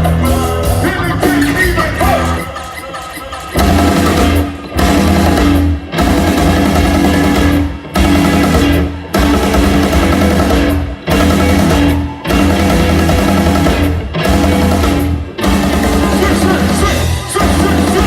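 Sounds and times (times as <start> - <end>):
rock band playing: 0.0 - 18.0.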